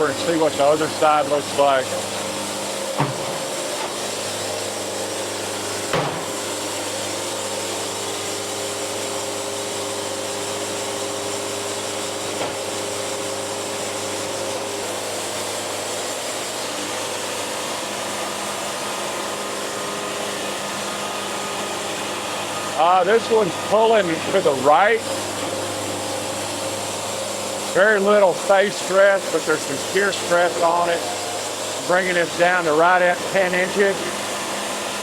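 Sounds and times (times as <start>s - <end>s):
band saw cutting log: 0.0s - 35.0s
dust collector running: 0.0s - 35.0s.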